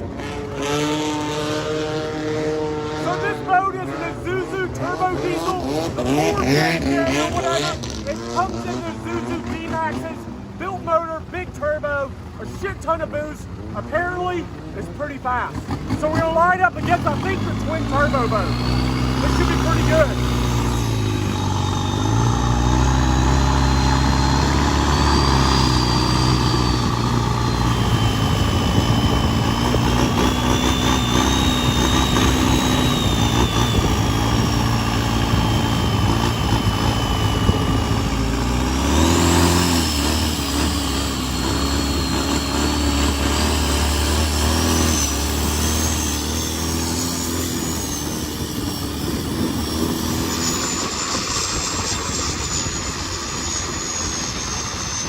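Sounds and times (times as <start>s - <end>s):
boat diesel engine running hard: 0.0s - 55.0s
high turbo whine: 0.0s - 55.0s.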